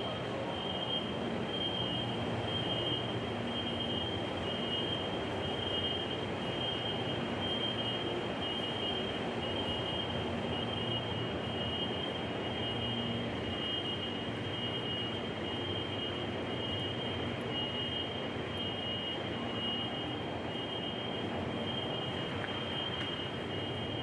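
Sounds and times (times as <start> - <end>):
rushing metro station noise: 0.0 - 24.0.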